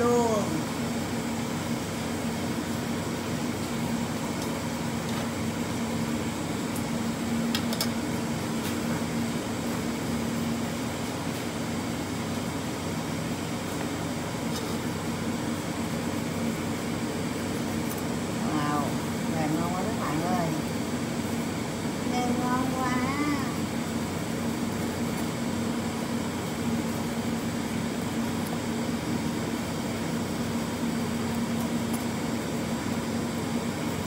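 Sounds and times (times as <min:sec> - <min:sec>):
mechanical hum: 0:00.0 - 0:34.0.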